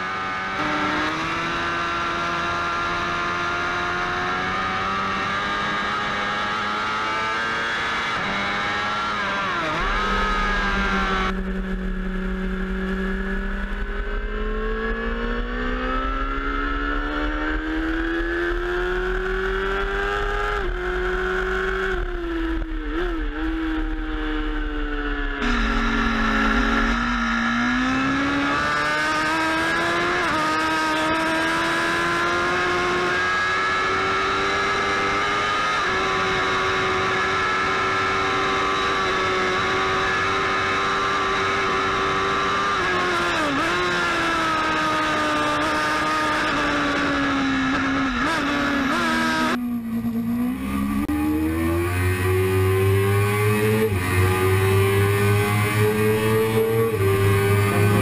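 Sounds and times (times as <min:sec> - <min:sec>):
racing motorcycle engine high revs: 0:00.0 - 0:58.0.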